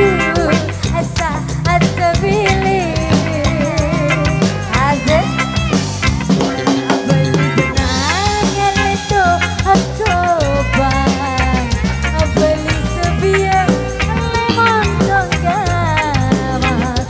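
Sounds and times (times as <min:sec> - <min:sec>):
bass: 0:00.0 - 0:17.0
drum kit beat: 0:00.0 - 0:17.0
live band through loudspeakers: 0:00.0 - 0:17.0
wavering melody line: 0:02.3 - 0:16.2.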